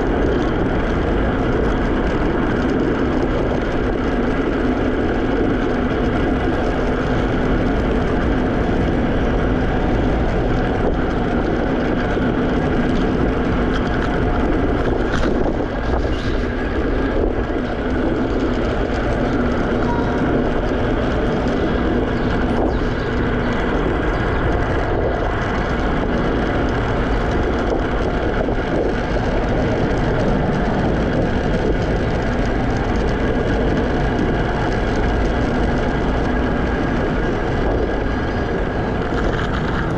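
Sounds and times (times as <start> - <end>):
low hum: 0.0 - 39.9
scooter road noise: 0.0 - 39.9
wind noise: 0.0 - 39.9.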